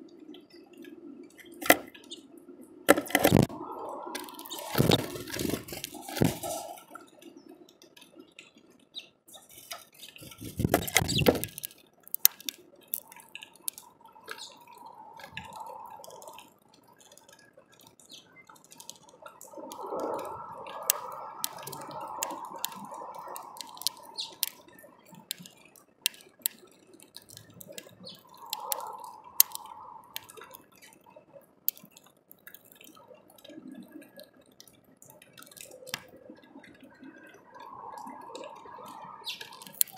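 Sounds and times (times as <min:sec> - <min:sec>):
rain ticking on plastic: 0:00.0 - 0:39.9.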